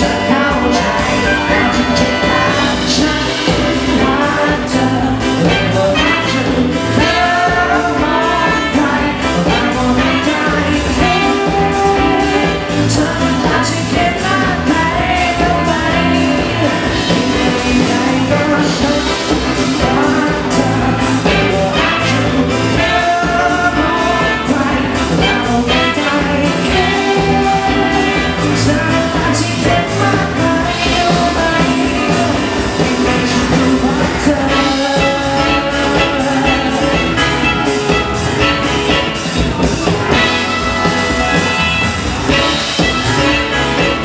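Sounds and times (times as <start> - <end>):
horn section: 0.0 - 44.0
live pop band playing: 0.0 - 44.0
man singing: 0.0 - 44.0
steady drum beat: 0.0 - 44.0.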